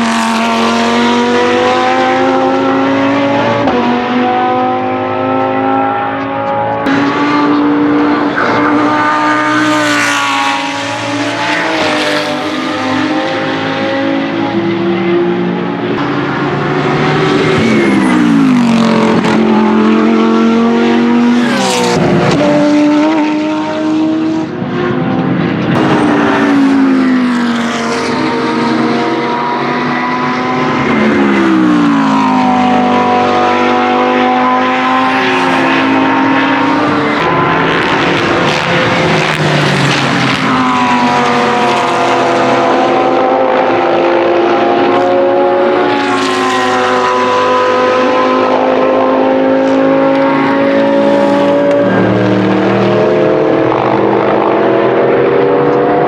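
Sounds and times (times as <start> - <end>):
racing engines passing at speed: 0.0 - 56.0.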